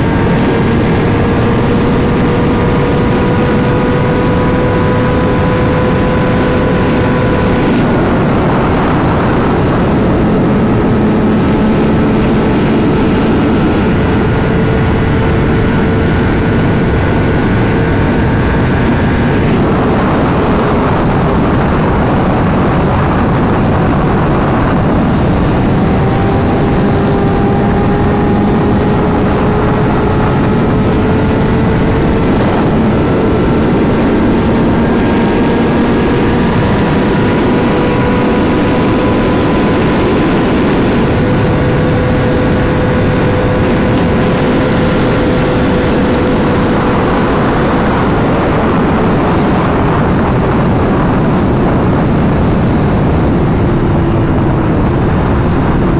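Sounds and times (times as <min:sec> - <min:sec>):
motorcycle engine running: 0:00.0 - 0:55.9
wind and road noise: 0:00.0 - 0:55.9.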